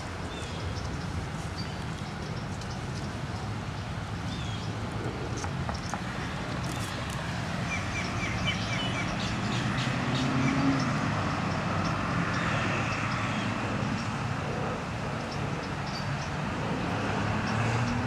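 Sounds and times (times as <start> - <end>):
distant road traffic rumble: 0.0 - 18.0.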